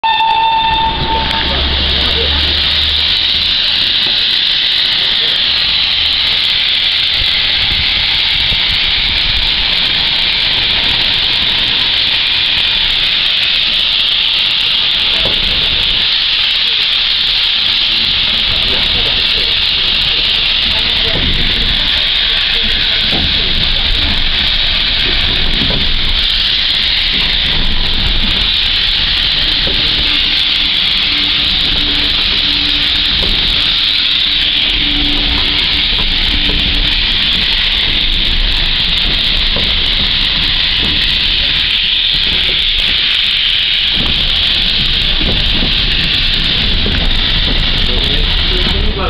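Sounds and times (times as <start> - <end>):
steam locomotive hissing steam: 0.0 - 49.0.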